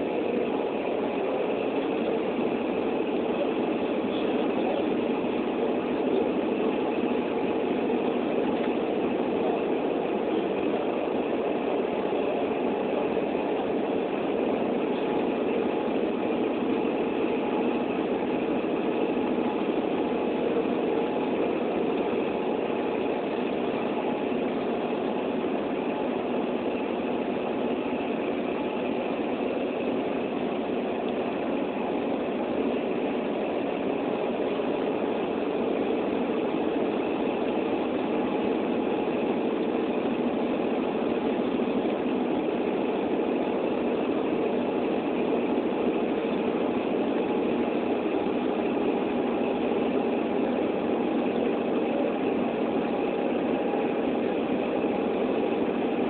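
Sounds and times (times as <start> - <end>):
continuous low hum: 0.0 - 56.0.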